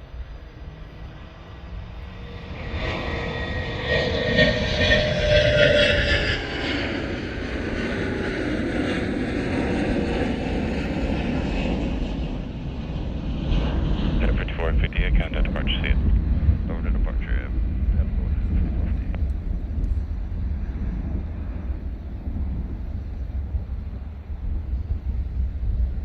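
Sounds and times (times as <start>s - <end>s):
jet landing with whining rush: 0.0s - 26.0s.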